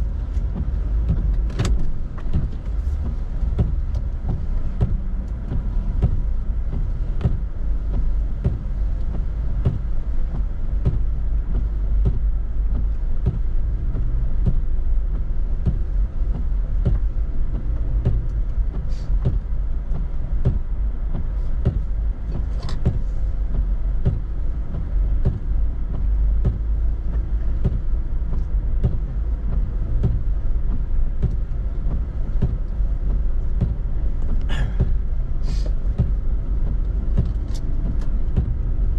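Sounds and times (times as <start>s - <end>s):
car rumbling on snowy road: 0.0s - 38.9s
small irregular clicks and knocks: 0.1s - 38.9s.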